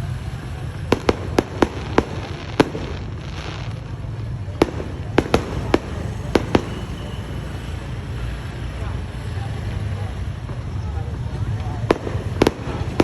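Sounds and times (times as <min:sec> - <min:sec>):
fireworks cracking: 0:00.0 - 0:13.0.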